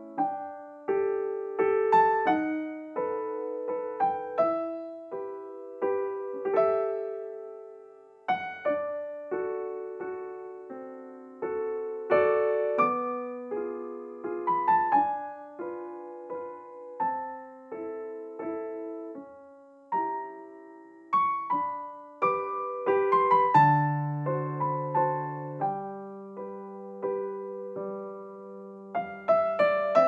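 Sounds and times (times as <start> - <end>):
slow gentle piano music: 0.0 - 30.0.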